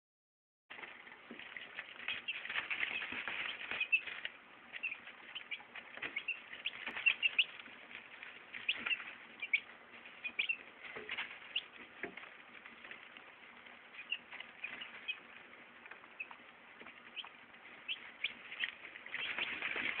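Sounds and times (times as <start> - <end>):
chicks peeping: 0.7 - 20.0
chicks scratching in bedding: 0.7 - 20.0.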